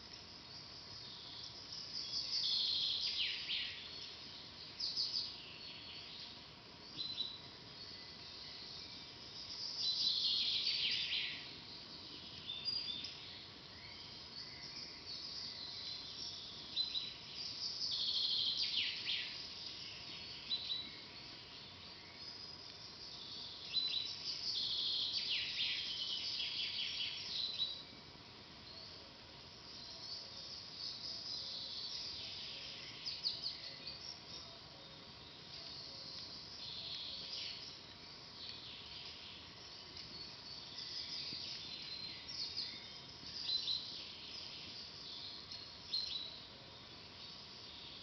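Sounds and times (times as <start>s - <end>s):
faint background hiss: 0.0s - 48.0s
small songbirds chirping: 0.0s - 48.0s.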